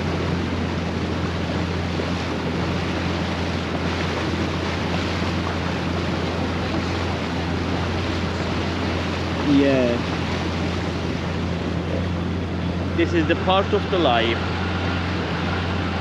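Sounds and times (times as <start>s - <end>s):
low steady hum: 0.0s - 16.0s
water washing past boat: 0.0s - 16.0s.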